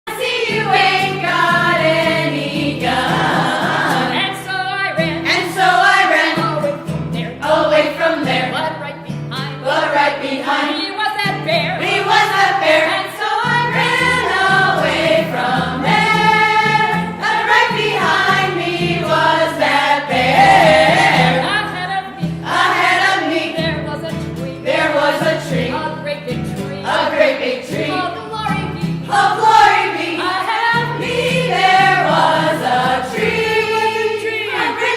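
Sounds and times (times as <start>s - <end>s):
several voices singing together: 0.1s - 34.9s.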